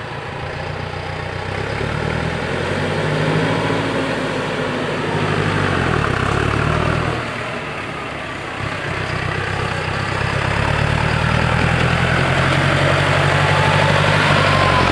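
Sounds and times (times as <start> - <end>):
vehicle engine running at low revs: 0.0 - 14.9.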